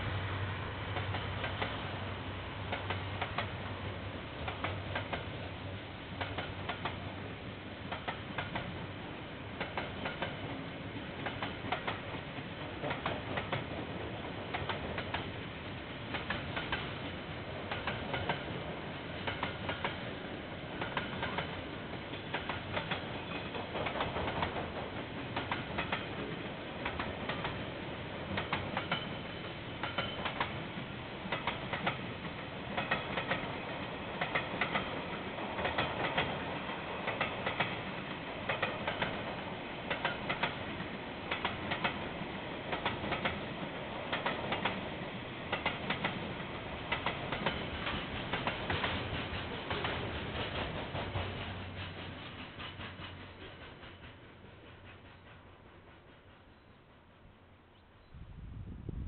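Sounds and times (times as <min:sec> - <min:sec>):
freight train rumbling past: 0:00.0 - 0:59.0
wheels clacking on track: 0:00.8 - 0:03.7, 0:04.3 - 0:07.2, 0:07.9 - 0:08.9, 0:09.6 - 0:56.4.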